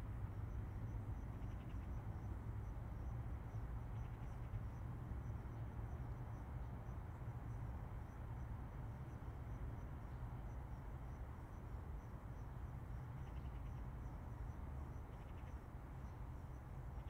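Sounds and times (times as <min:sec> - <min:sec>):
distant highway traffic: 0:00.0 - 0:17.0
insect chirping: 0:00.4 - 0:08.5, 0:09.1 - 0:17.0
faint rapid ticking calls: 0:00.5 - 0:17.0.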